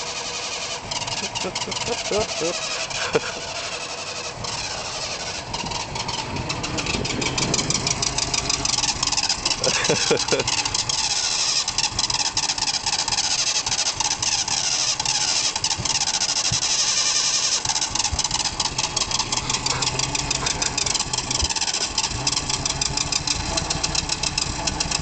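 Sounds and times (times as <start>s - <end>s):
engine cranking on starter motor: 0.0s - 25.0s.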